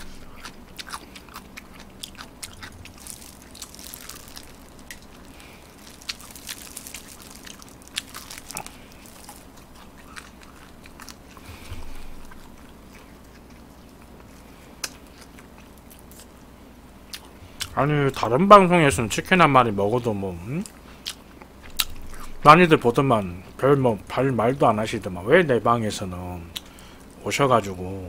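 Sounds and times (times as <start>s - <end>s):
crunchy chewing of fried chicken: 0.0s - 18.3s, 19.2s - 23.6s, 26.4s - 27.4s.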